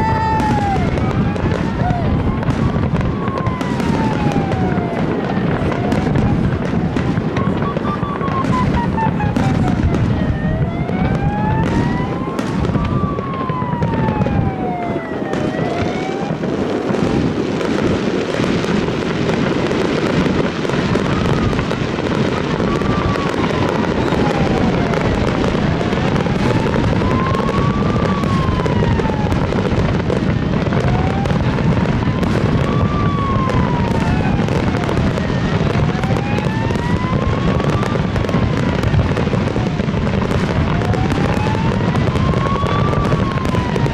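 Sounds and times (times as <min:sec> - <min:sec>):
fireworks bangs and crackles: 0:00.0 - 0:43.9
siren wailing: 0:00.0 - 0:43.9.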